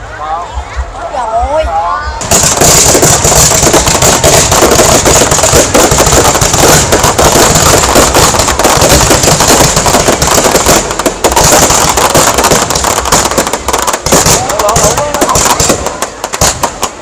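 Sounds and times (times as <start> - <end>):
fireworks bangs and crackle: 2.2 - 17.0.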